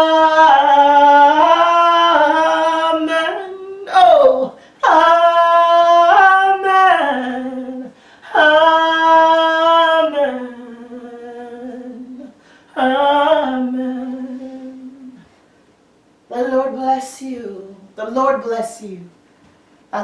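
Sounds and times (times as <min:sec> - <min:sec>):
woman singing unaccompanied: 0:00.0 - 0:15.3, 0:16.3 - 0:19.2.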